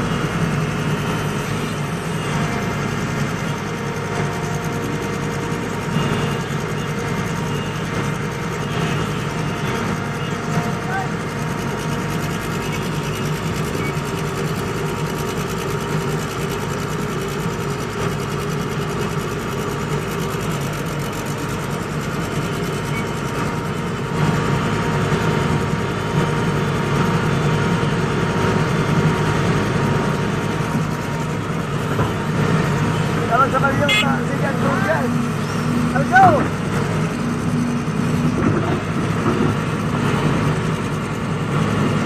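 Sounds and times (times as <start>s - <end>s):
diesel engine running under load: 0.0s - 42.0s.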